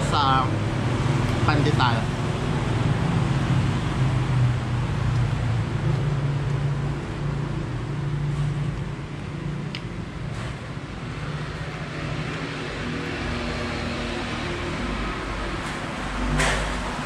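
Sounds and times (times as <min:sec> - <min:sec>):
road traffic engine hum: 0:00.0 - 0:17.0.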